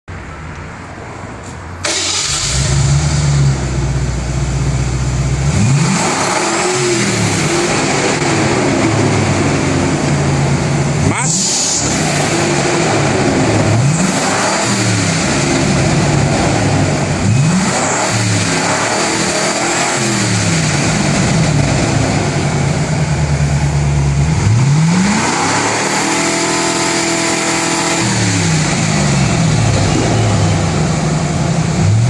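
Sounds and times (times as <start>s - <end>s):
car engine revving: 1.8s - 32.0s.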